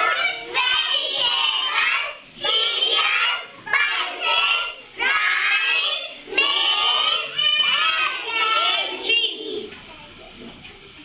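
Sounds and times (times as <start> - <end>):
children chanting in unison: 0.0 - 9.7.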